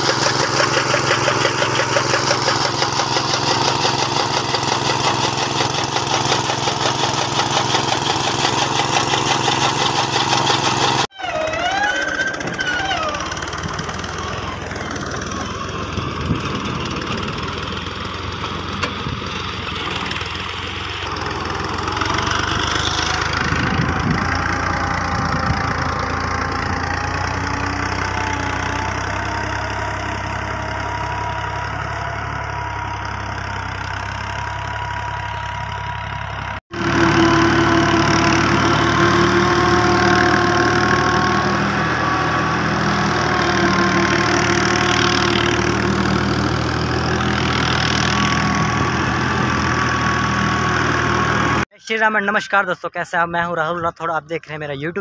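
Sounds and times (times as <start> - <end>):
tractor engine running: 0.0 - 51.7.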